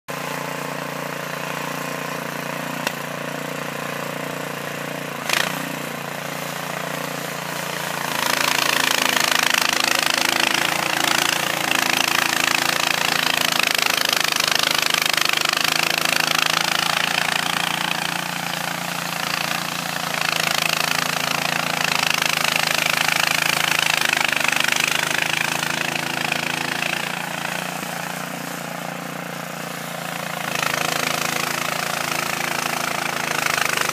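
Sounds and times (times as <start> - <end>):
snowblower engine running: 0.0 - 33.9
snow churning through auger: 0.1 - 33.9.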